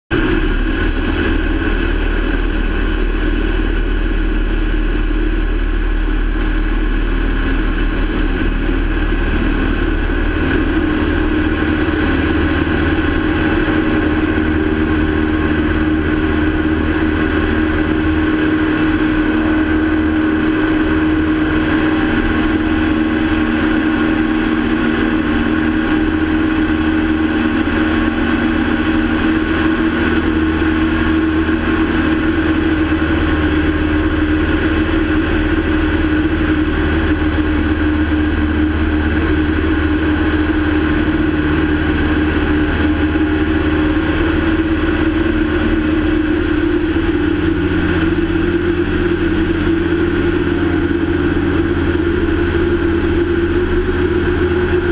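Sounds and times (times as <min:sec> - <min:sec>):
propeller airplane engine drone: 0:00.0 - 0:54.9.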